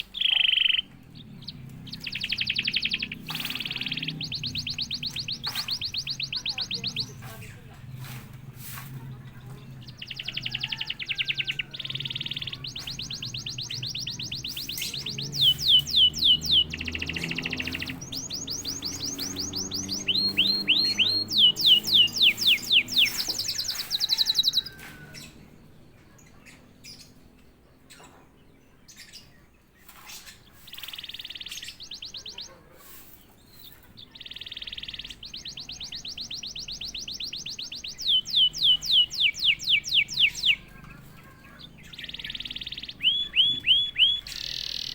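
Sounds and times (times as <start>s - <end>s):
canary singing trills: 0.0s - 8.4s, 9.2s - 44.9s.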